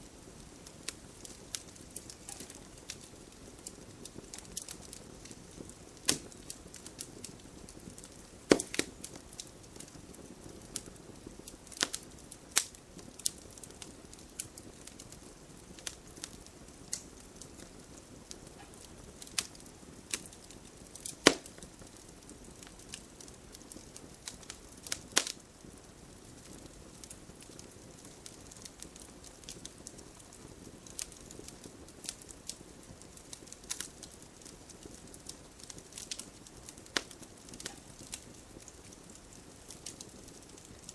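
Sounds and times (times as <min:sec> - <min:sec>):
campfire crackling and popping: 0:00.0 - 0:40.9
low fire hiss: 0:00.0 - 0:40.9.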